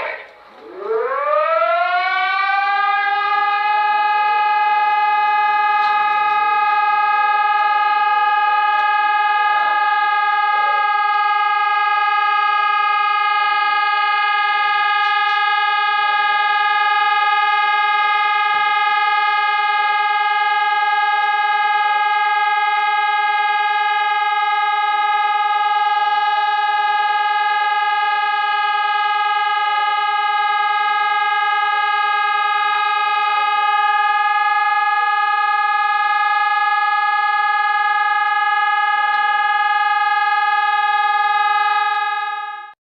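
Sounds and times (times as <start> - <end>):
emergency alert alarm tone: 0.0 - 42.8.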